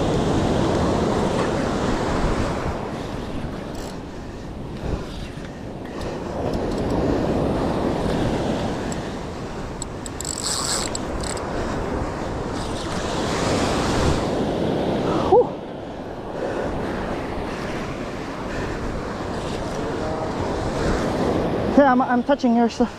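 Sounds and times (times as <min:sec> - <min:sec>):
ocean waves breaking on shore: 0:00.0 - 0:22.9
wind on microphone: 0:00.0 - 0:22.9.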